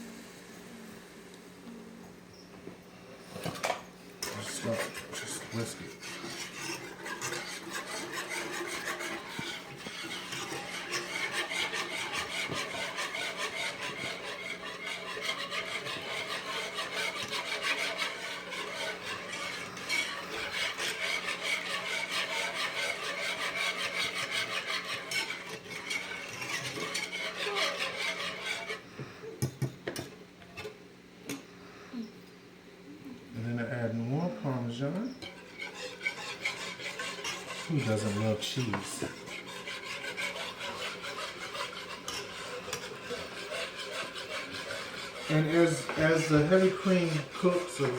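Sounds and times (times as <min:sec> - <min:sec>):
whisk scraping a pan: 0:03.2 - 0:30.8, 0:33.4 - 0:47.9.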